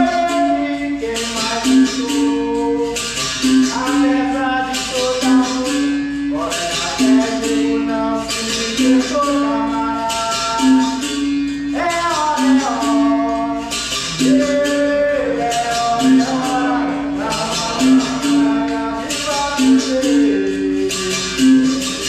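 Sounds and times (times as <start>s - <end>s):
berimbau repeating notes: 0.0s - 22.0s
man singing: 0.0s - 22.0s
shaken rattle: 0.0s - 22.0s.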